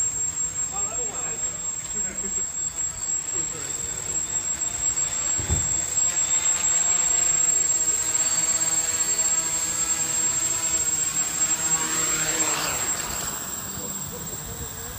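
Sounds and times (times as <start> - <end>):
drone propellers buzzing: 0.0 - 14.9
high whine: 0.0 - 14.9.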